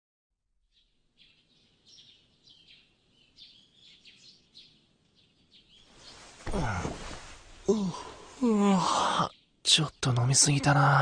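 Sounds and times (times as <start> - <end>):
small birds chirping: 0.7 - 11.0.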